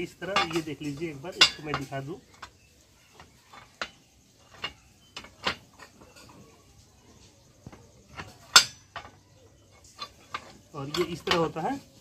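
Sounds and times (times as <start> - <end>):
metal clinks and knocks: 0.0 - 12.0.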